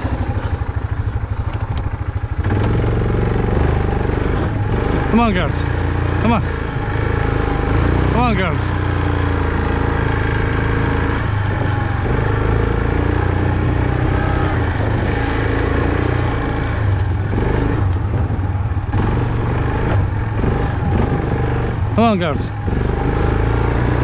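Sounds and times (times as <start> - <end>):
small vehicle engine running: 0.0 - 24.0.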